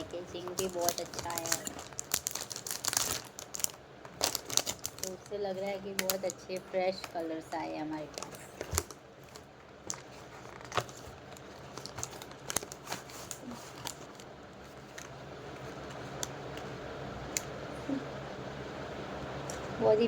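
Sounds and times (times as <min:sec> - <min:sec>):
packaging rustling: 0:00.0 - 0:16.8.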